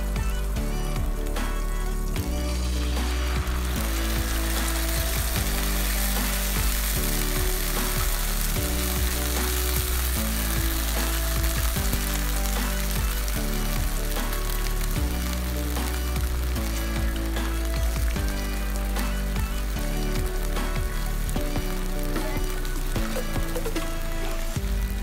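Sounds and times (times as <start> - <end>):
background music with bass line: 0.0 - 25.0
fish sizzling in a frying pan: 0.1 - 25.0.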